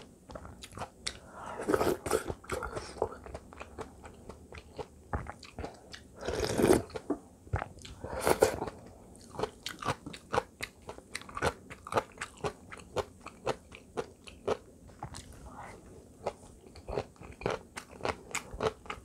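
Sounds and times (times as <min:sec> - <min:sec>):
chewing: 0:01.8 - 0:08.0, 0:08.6 - 0:15.4, 0:16.2 - 0:19.0.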